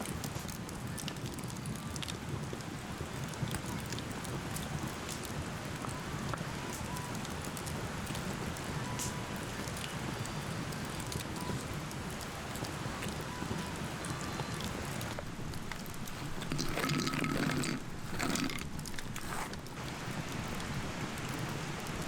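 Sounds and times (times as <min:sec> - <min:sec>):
campfire hissing: 0:00.0 - 0:22.0
fire crackles and pops: 0:00.0 - 0:22.0.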